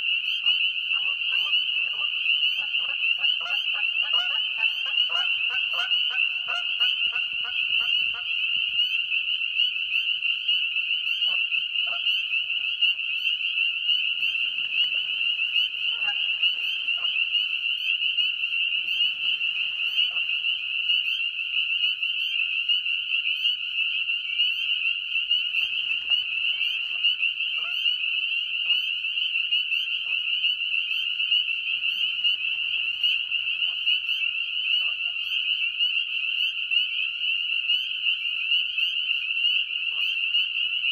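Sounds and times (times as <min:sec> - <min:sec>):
geese honking: 0:00.0 - 0:22.3, 0:25.4 - 0:36.6
chorus of frogs peeping: 0:00.0 - 0:40.9.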